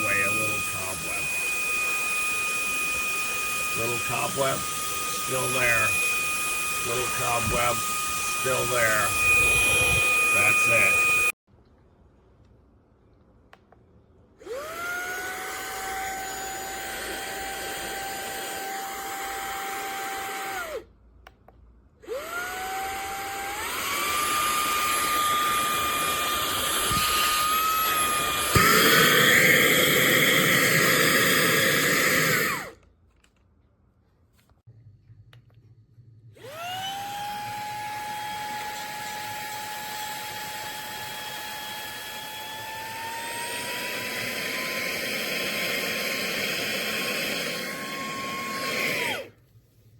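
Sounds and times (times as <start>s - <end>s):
handheld vacuum motor whine: 0.0s - 11.4s, 14.4s - 20.8s, 22.0s - 32.8s, 36.4s - 49.4s.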